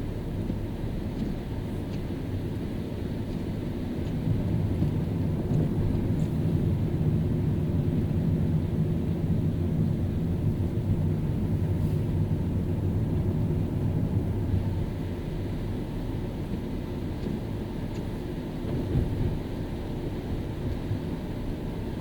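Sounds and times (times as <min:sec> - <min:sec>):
engine and tyres rumbling: 0:00.0 - 0:22.0.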